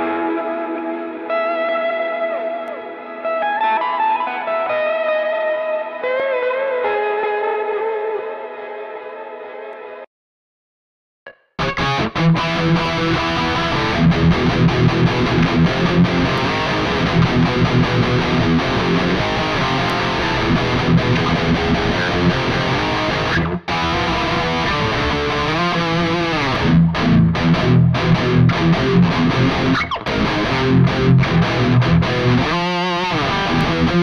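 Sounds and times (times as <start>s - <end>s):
distorted electric guitar riffing: 0.0s - 10.0s, 11.6s - 34.0s
wavering bent guitar notes: 0.0s - 10.0s, 11.3s - 34.0s.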